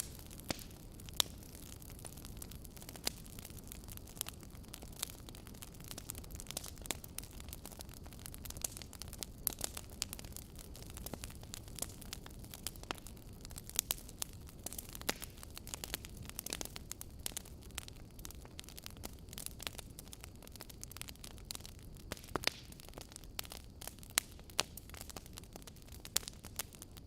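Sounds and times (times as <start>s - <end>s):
low rumble of flames: 0.0s - 27.0s
wood fire crackling and popping: 0.0s - 27.0s.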